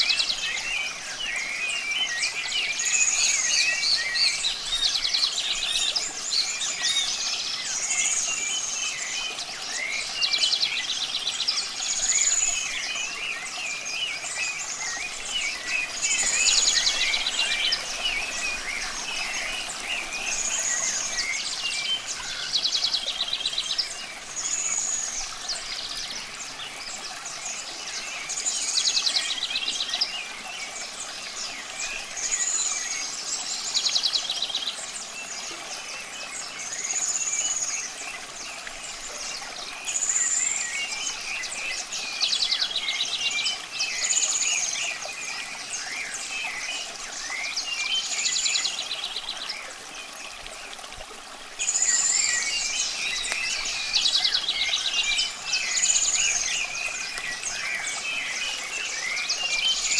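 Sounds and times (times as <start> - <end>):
running water hiss: 0.0 - 59.9.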